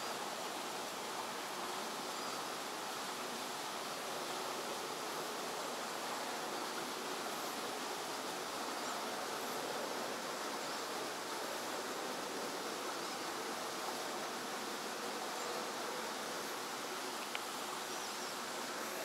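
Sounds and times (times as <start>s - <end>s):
flowing water rushing: 0.0s - 19.0s.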